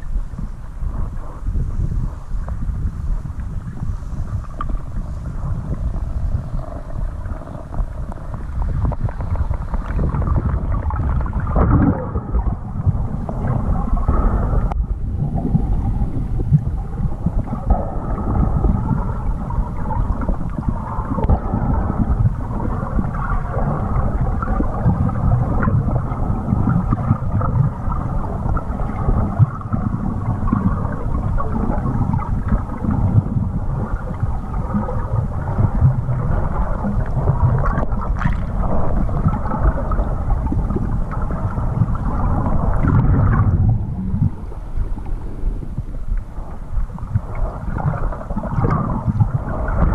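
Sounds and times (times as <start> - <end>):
muffled underwater water rushing: 0.0 - 49.9.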